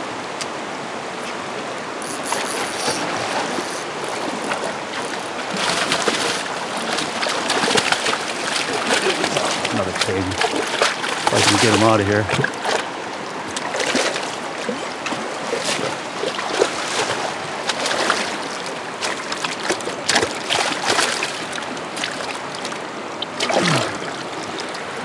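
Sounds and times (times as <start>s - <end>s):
river water running: 0.0s - 25.0s.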